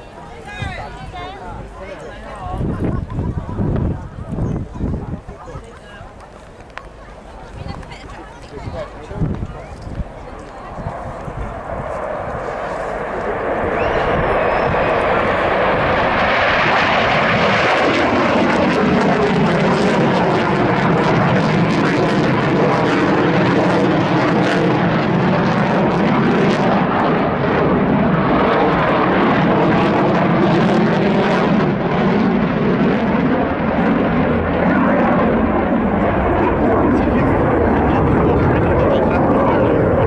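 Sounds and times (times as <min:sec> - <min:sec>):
fighter jet engines roaring: 0:00.0 - 0:40.0.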